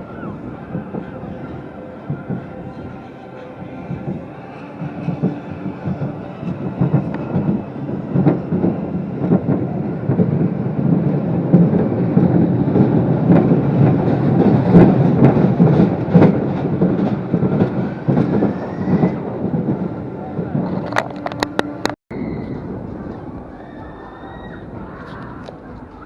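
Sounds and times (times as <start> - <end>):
ride car rattling along track: 0.0 - 26.0.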